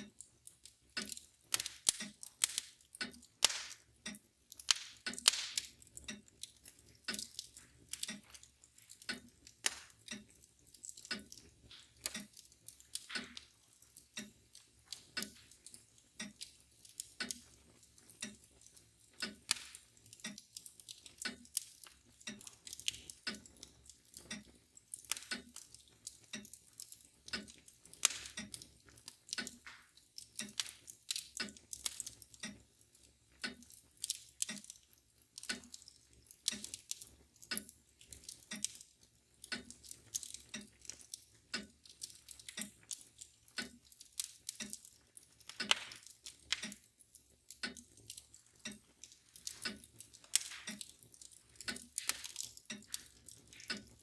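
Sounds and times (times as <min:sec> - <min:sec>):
mantle clock ticking: 0:00.0 - 0:54.0
wood fire crackling and popping: 0:00.0 - 0:54.0.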